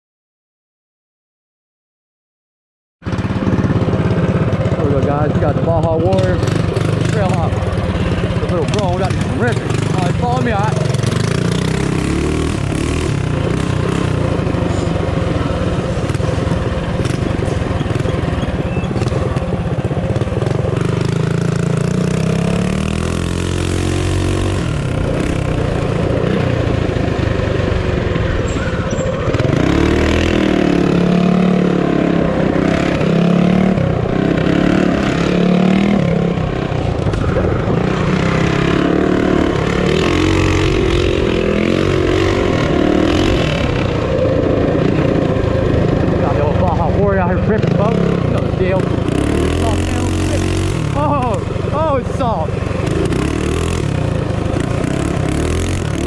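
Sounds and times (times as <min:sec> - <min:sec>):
minibike engine revving: 0:03.1 - 0:56.0.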